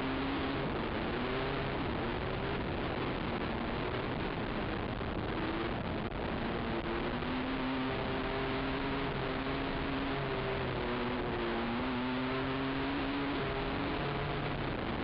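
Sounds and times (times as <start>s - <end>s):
muffled atv engine revving: 0.0s - 15.0s
wind noise: 0.0s - 15.0s.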